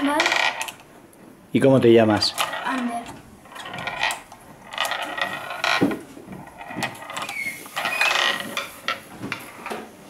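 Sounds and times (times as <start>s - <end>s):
pinball flippers clacking: 0.0s - 0.8s, 2.2s - 9.4s
ball rolling and knocking on wood: 0.0s - 0.9s, 2.2s - 9.9s.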